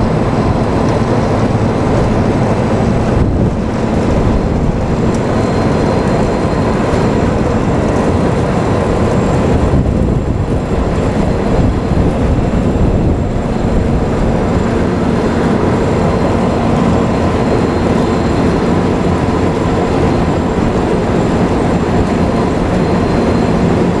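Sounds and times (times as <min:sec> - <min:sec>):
asphalt milling machine grinding: 0:00.0 - 0:24.0.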